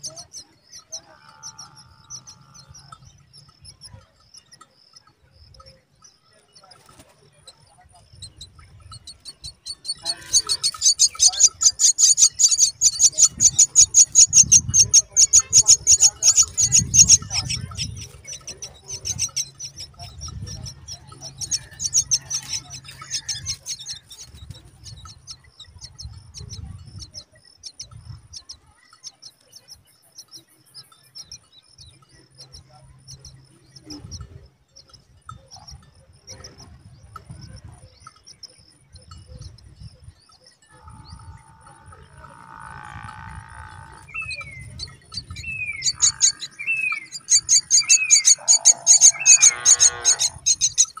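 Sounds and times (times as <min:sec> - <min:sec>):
nestlings begging chatter: 0:00.0 - 0:51.0.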